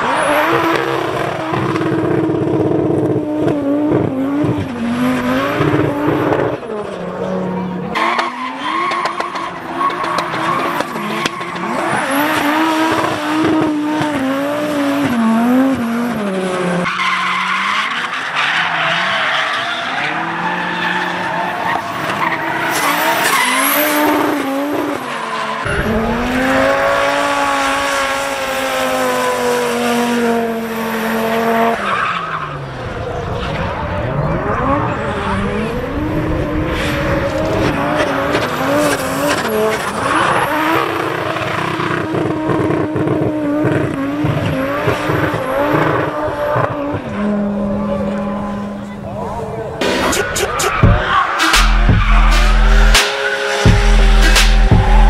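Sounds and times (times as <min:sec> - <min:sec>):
car engine revving hard: 0:00.0 - 0:08.2, 0:09.0 - 0:18.0, 0:19.8 - 0:32.0, 0:33.8 - 0:55.0.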